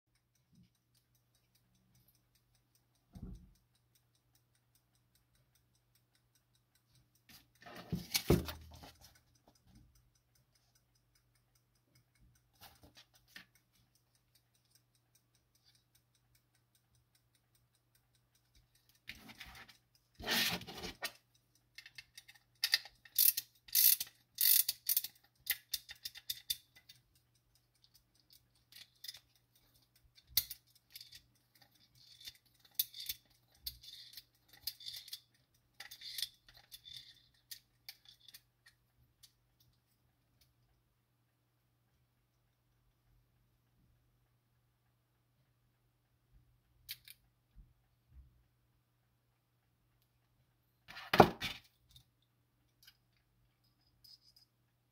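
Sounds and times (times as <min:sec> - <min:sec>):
clock ratchet clicking: 0:00.1 - 0:41.4, 0:43.4 - 0:50.2, 0:50.8 - 0:54.9.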